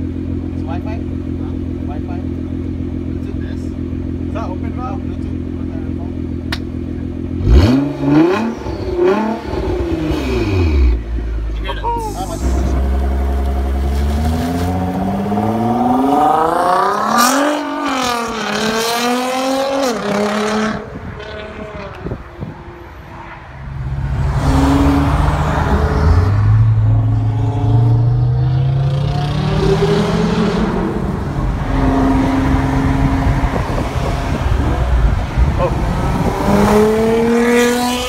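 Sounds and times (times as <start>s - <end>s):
sports car engine accelerating hard: 0.0s - 11.5s, 12.3s - 22.8s, 23.5s - 38.0s.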